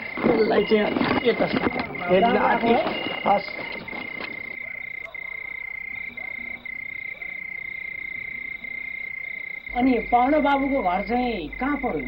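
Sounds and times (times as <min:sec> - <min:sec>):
frog chorus trilling: 0:00.0 - 0:12.0.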